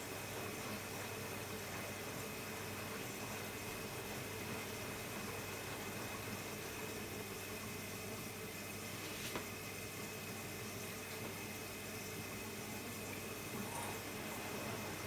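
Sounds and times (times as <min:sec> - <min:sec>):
washer-dryer water rushing: 0:00.0 - 0:15.0.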